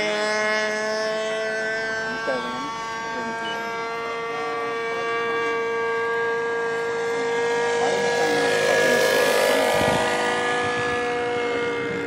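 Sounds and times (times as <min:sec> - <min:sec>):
model plane engine whine: 0:00.0 - 0:12.0.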